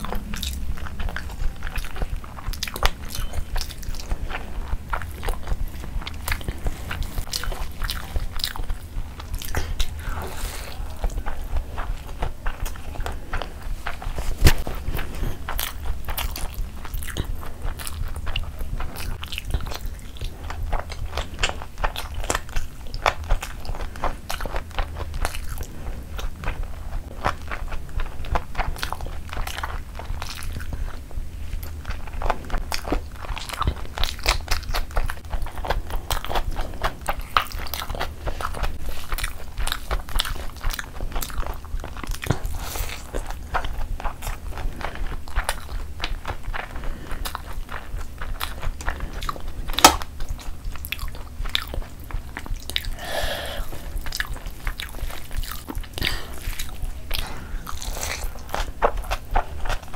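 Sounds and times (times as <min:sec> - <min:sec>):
low steady hum: 0:00.0 - 0:59.9
wet chewing and biting: 0:00.0 - 0:59.9.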